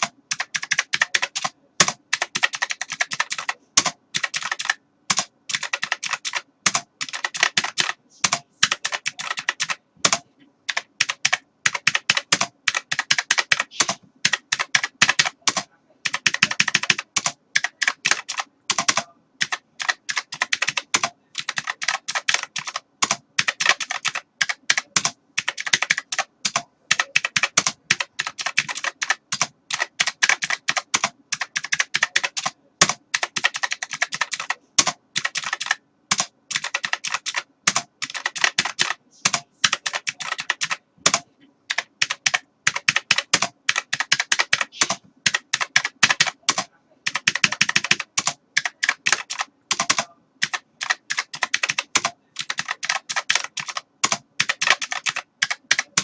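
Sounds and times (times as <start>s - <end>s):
keyboard typing: 0.0s - 56.0s.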